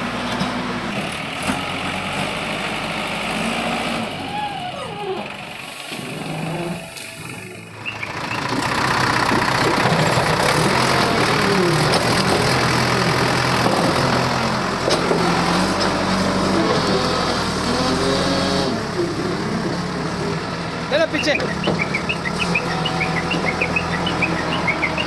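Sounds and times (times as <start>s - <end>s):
diesel engine under load: 0.0s - 25.0s.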